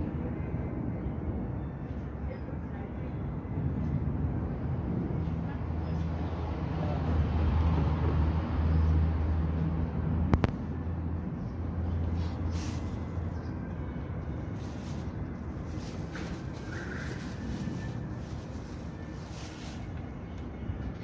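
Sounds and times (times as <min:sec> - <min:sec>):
engine rumble in traffic: 0:00.0 - 0:21.0.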